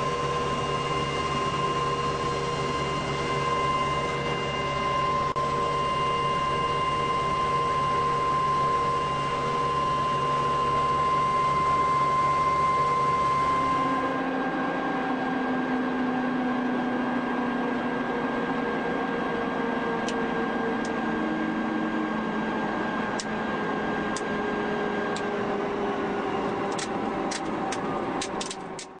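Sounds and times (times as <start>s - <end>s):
helicopter turbine and rotor whine: 0.0s - 29.0s.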